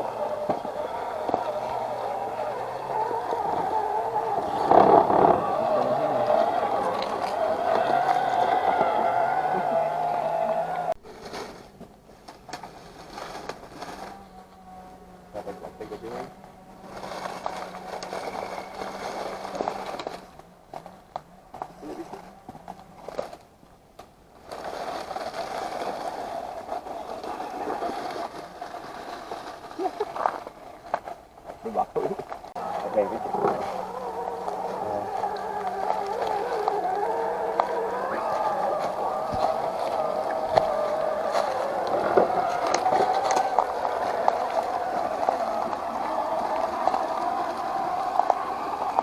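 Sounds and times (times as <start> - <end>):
electric motor and gearbox whining: 0.0 - 11.0, 12.6 - 23.5, 24.3 - 49.0.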